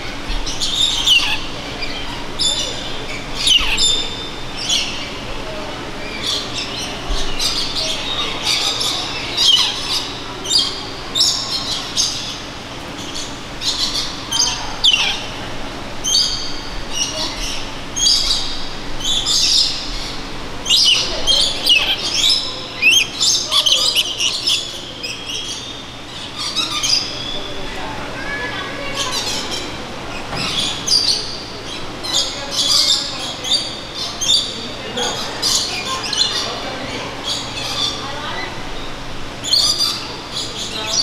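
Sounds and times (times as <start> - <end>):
lorikeets screeching: 0.0 - 41.0.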